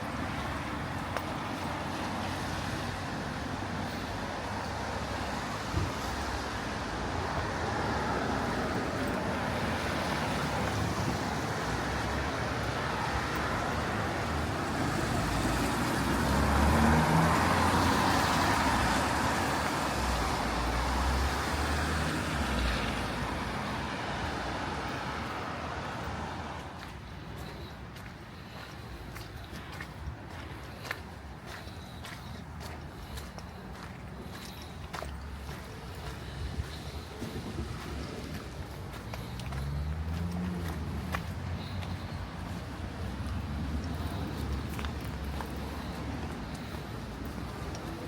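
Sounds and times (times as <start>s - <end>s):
vehicle engine rumble: 0.0s - 48.0s.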